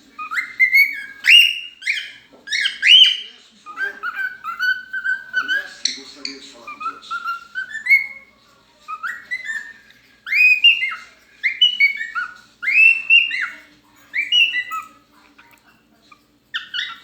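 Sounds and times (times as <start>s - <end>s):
bird whistling song: 0.2s - 8.3s, 8.9s - 15.0s, 16.5s - 17.0s.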